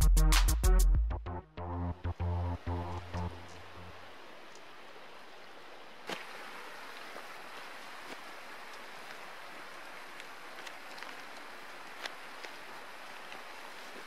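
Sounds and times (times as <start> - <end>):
stream rushing: 2.1 - 14.0.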